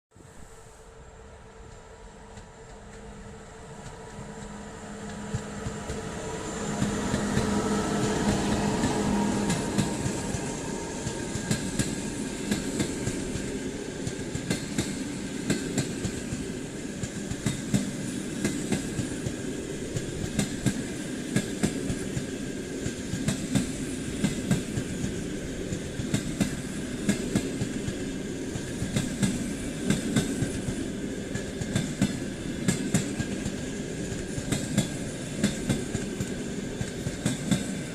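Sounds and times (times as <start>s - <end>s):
electric locomotive humming: 0.2s - 37.9s
train wheels clacking on rail joints: 1.7s - 37.9s.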